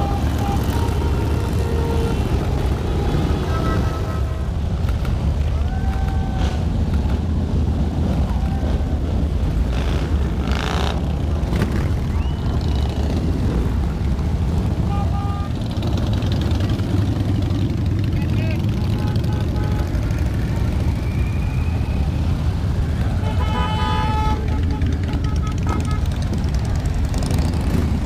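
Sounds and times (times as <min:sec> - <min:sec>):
motorcycle engines rumbling: 0:00.0 - 0:28.0.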